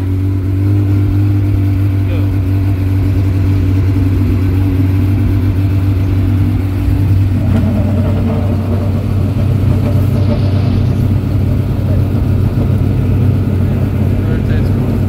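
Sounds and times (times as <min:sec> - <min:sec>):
higher engine note: 0:00.0 - 0:15.0
race car engines idling: 0:00.0 - 0:15.0.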